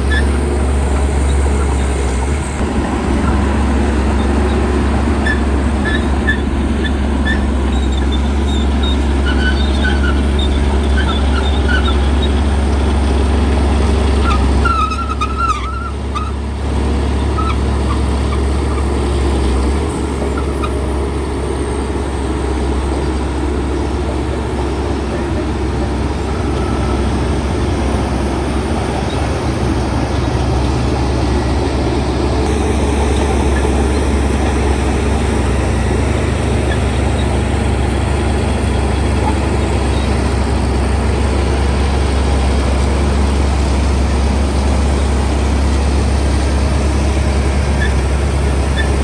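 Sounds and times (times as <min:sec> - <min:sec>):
bulldozer diesel engine droning: 0:00.0 - 0:49.0.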